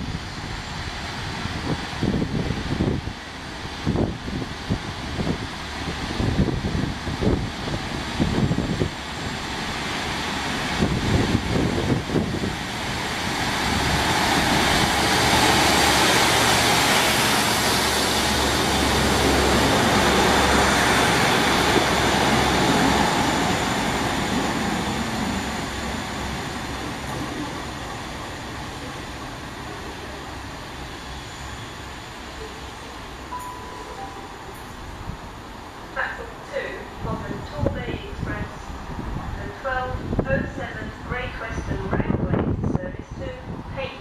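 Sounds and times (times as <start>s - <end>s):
diesel train passing: 0.0s - 44.0s.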